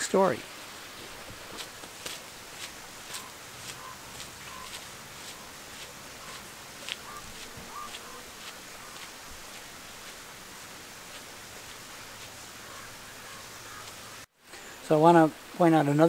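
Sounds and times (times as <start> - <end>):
footsteps on dirt road: 0.5 - 14.3.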